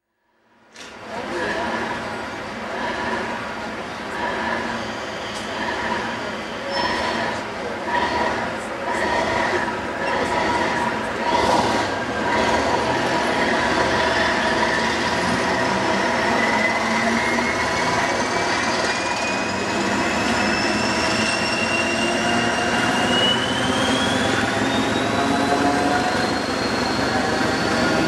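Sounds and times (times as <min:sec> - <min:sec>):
train engine and running noise: 0:00.4 - 0:28.0.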